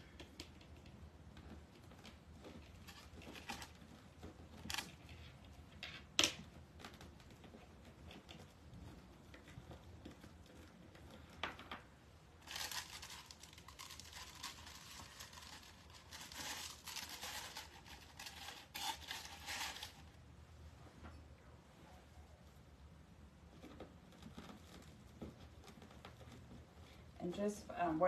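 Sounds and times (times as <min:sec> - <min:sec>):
mesh ribbon rustling: 0:00.0 - 0:20.2, 0:23.5 - 0:28.0.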